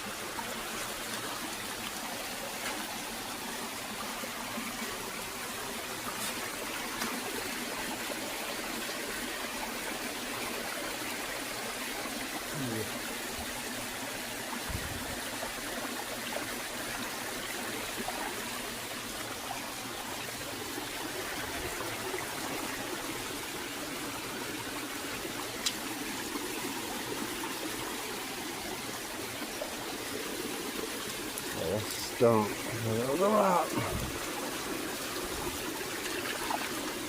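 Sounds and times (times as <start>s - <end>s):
rushing flowing water: 0.0s - 37.0s.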